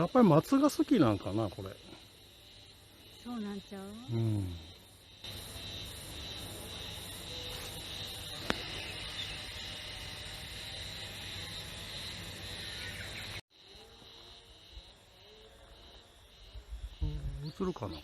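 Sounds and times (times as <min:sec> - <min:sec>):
cicadas chorus: 0:00.0 - 0:18.0.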